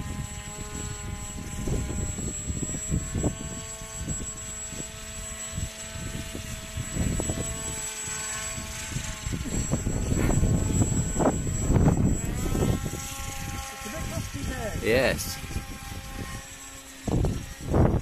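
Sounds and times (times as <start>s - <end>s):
model propeller motor whine: 0.0s - 18.0s
wind buffeting microphone: 0.0s - 18.0s.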